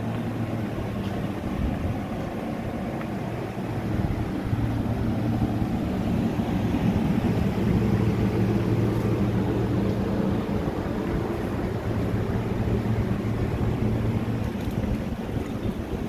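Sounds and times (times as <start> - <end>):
air conditioner units humming: 0.0 - 16.0.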